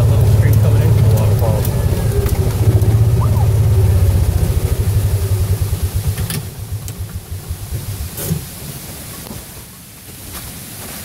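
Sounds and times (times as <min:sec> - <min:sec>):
small vehicle engine pulsing: 0:00.0 - 0:09.2
water rushing: 0:00.0 - 0:11.0.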